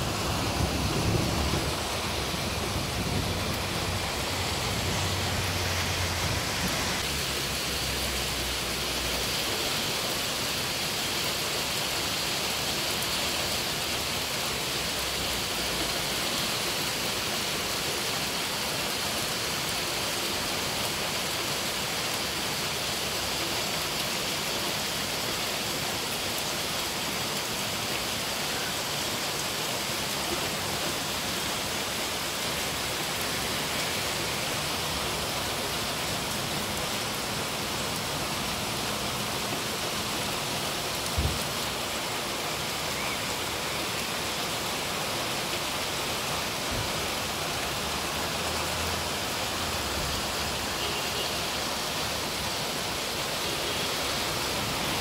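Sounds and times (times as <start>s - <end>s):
heavy rain and hail: 0.0s - 55.0s.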